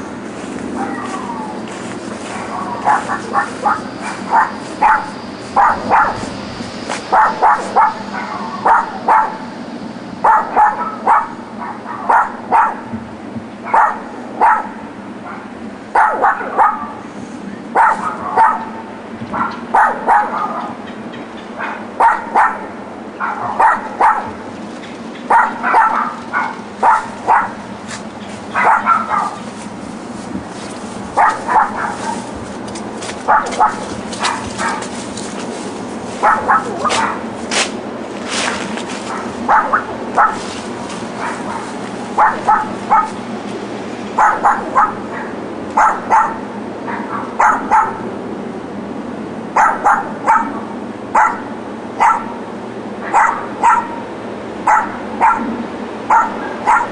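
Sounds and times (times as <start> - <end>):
dogs barking: 0.0 - 13.0, 13.6 - 37.8, 38.4 - 48.2, 49.4 - 56.9.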